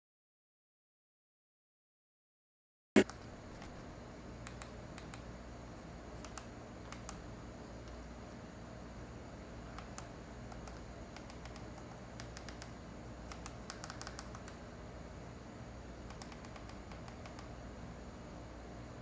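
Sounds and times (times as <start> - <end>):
low room hum: 3.0 - 19.0.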